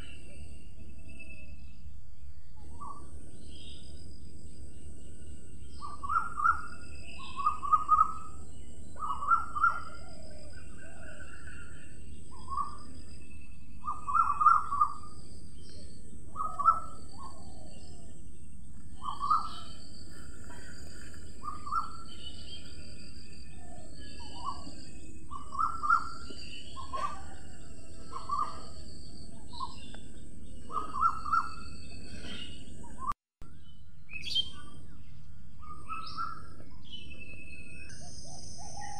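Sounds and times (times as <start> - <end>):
bird calls: 0.0 - 38.9
bird chirps and trills: 0.0 - 38.9.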